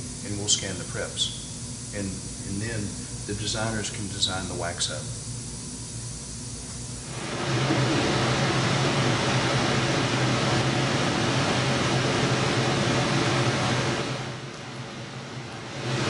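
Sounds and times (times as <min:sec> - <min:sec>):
scanner humming and hissing: 0:00.0 - 0:16.0.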